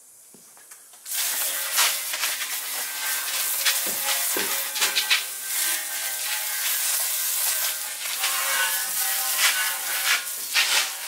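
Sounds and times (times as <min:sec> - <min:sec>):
hose water spraying: 0:01.0 - 0:11.0.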